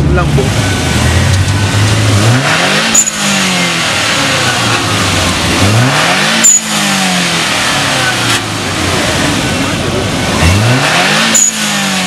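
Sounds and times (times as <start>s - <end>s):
exhaust crack: 0.0s - 12.0s
engine revving from idle: 0.3s - 12.0s.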